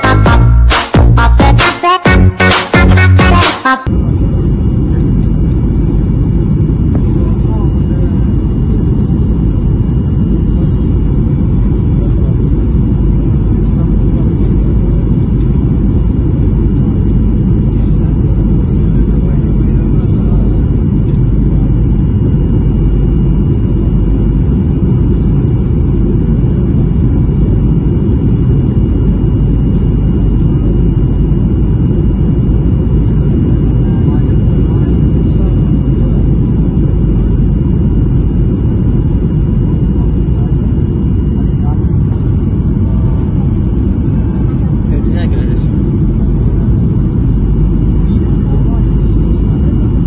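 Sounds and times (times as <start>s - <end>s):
jet cabin engine rumble: 3.8s - 50.0s
faint thin whine: 3.9s - 50.0s.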